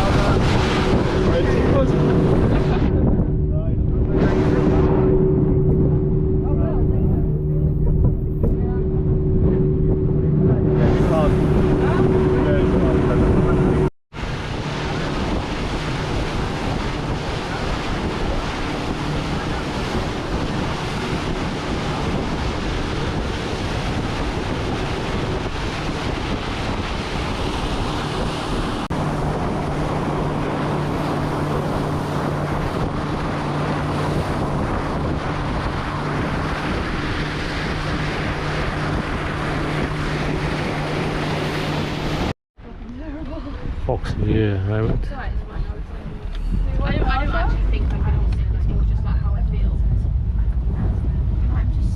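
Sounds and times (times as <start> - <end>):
water rushing past hull: 0.0 - 42.4, 43.0 - 51.9
boat engine running: 0.0 - 51.9
wind buffeting microphone: 0.0 - 51.9.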